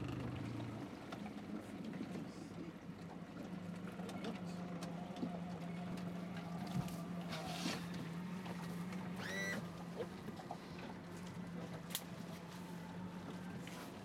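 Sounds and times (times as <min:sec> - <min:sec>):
boat motor idling: 0:00.0 - 0:14.0.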